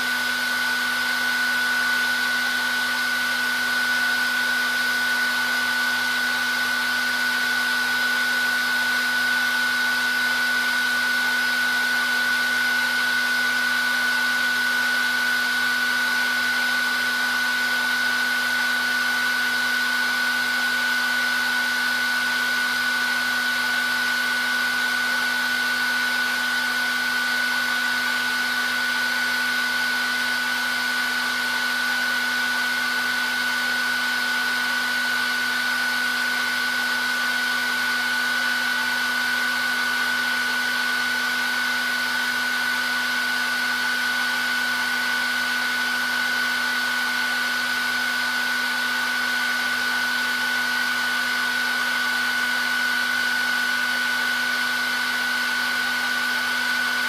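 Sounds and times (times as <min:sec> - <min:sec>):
hair dryer blowing air: 0:00.0 - 0:57.0
hair dryer motor whine: 0:00.0 - 0:57.0.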